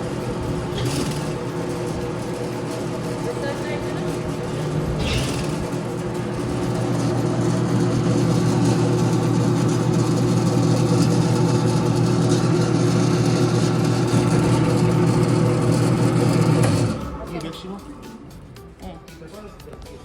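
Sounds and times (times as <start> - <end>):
cutting machine motor hum: 0.0 - 18.5.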